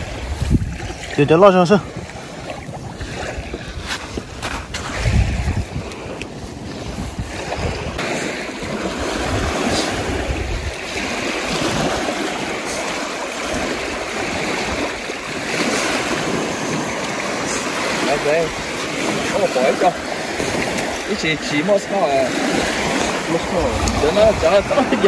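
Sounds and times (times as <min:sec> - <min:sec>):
waves breaking on shore: 0:00.0 - 0:25.0
wind buffeting microphone: 0:00.0 - 0:25.0.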